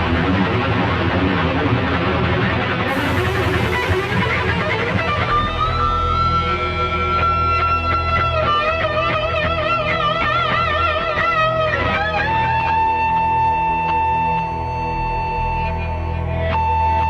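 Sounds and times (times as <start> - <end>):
electric guitar lead: 0.0 - 17.0
steady bass: 0.0 - 17.0.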